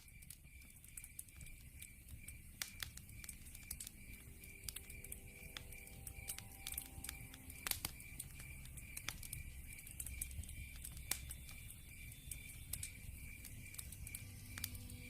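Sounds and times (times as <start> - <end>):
logs crackling and popping: 0.0 - 15.0
low fire rumble: 0.0 - 15.0.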